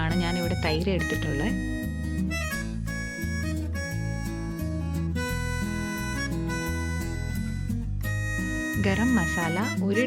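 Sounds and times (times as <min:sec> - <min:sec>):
bass line: 0:00.0 - 0:10.0
plucked string melody: 0:00.0 - 0:10.0.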